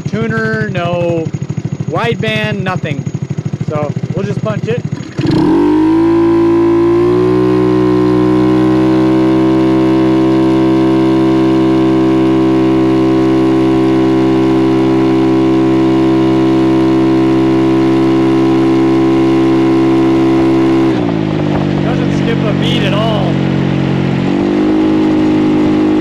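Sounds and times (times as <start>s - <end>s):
scooter engine at full throttle: 0.0s - 26.0s.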